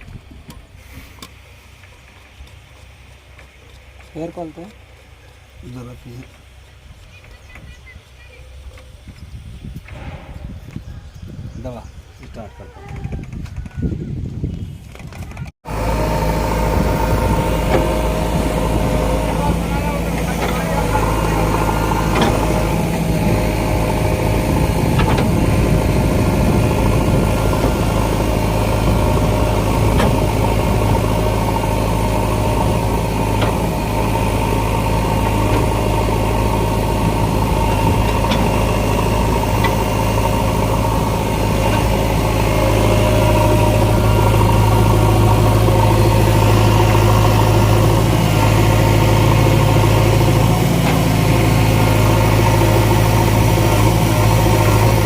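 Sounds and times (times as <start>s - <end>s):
diesel engine idling: 0.0s - 10.3s, 15.6s - 55.0s.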